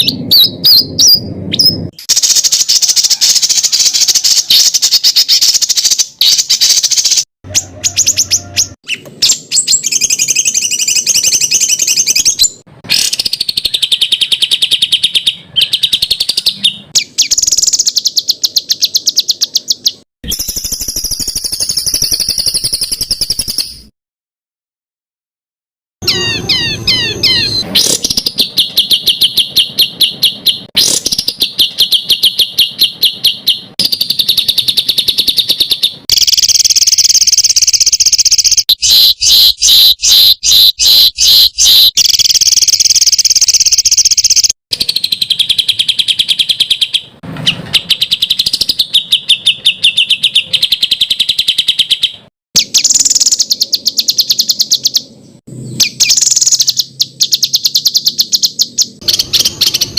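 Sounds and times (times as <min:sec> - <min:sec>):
songbird rapid harsh song: 0:00.0 - 0:23.9, 0:26.0 - 0:59.9.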